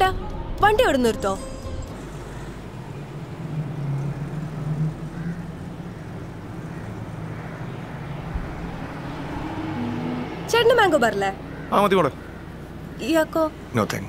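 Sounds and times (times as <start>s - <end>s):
car engine humming: 0.0s - 14.0s.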